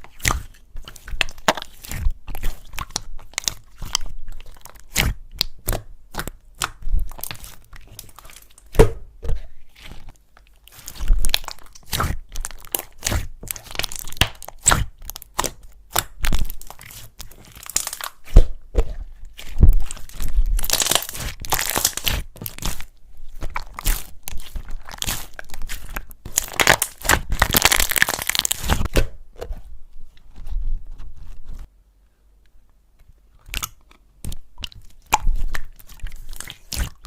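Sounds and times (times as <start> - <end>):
slime squeezed crackling: 0.0 - 8.8, 9.7 - 28.9, 33.4 - 37.0.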